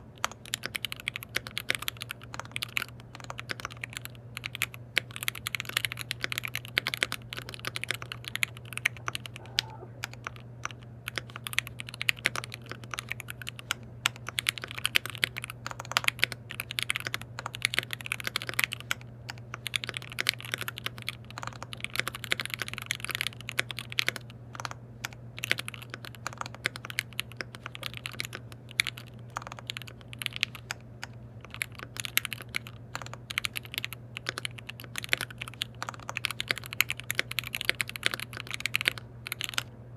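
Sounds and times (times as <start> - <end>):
mechanical keyboard typing: 0.2 - 39.7.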